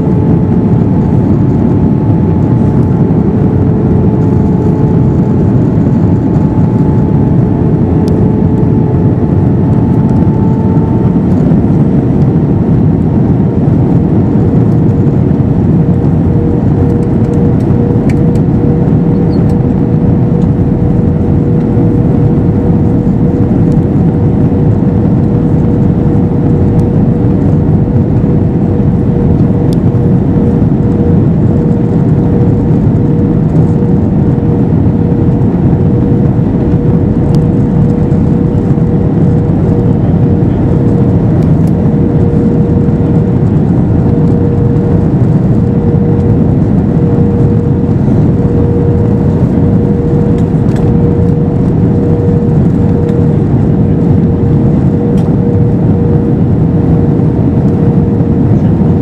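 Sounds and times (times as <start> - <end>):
aircraft cabin engine rush: 0.0 - 59.0
steady humming tone: 0.0 - 59.0.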